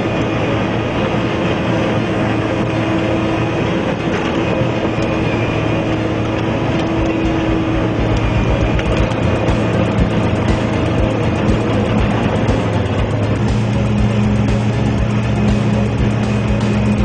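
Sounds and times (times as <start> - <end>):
wood chipper chipping brush: 0.0 - 17.0.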